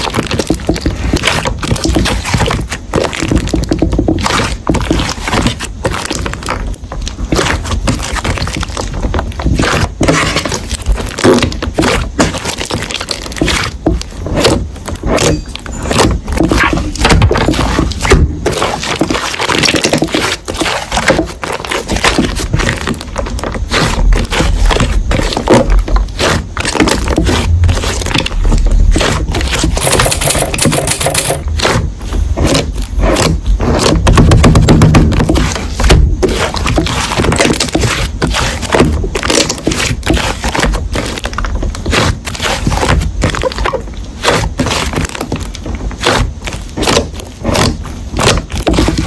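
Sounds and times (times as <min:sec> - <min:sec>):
slime crackling and popping: 0:00.0 - 0:49.0.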